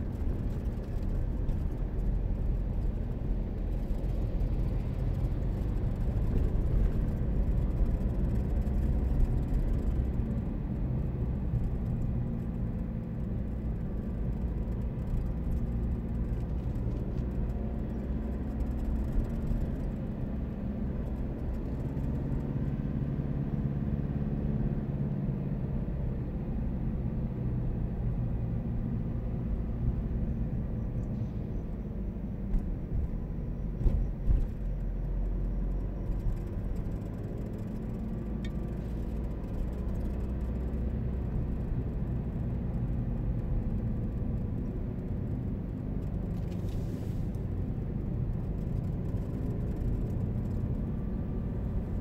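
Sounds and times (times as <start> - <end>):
car road noise inside cabin: 0.0 - 52.0.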